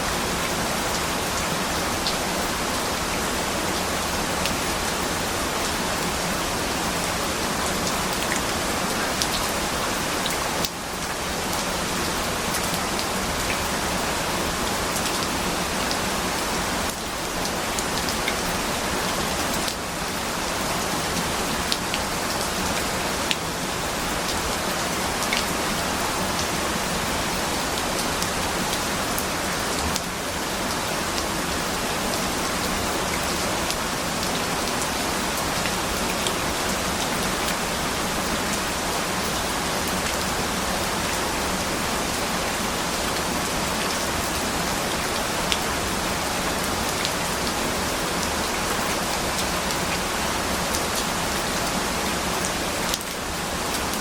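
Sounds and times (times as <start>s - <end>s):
rain on a surface: 0.0s - 54.0s.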